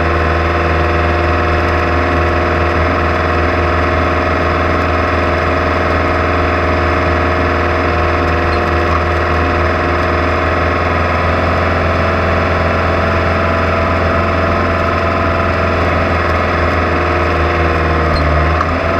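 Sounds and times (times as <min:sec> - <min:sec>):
engine droning steadily: 0:00.0 - 0:18.9.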